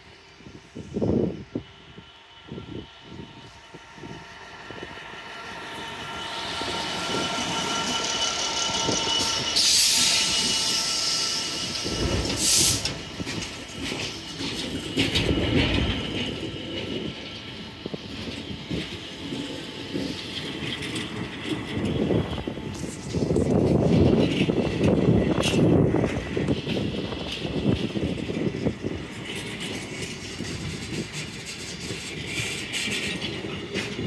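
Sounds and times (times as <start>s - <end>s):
diesel locomotive engine: 0.0s - 34.0s
wagons rumbling over rails: 0.0s - 34.0s.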